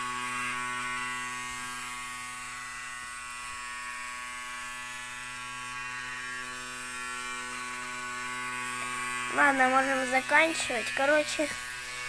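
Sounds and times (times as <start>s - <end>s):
small toy motor buzzing: 0.0s - 12.0s.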